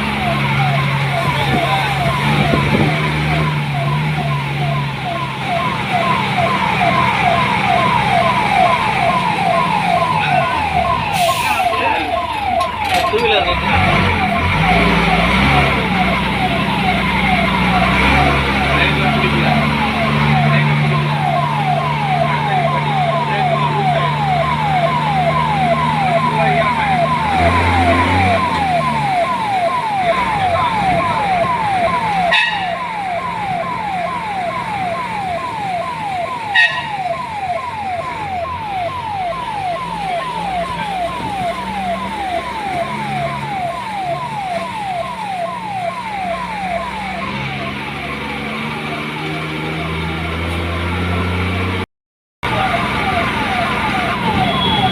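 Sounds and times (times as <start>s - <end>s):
electronic warning siren: 0.0s - 51.8s, 52.4s - 54.9s.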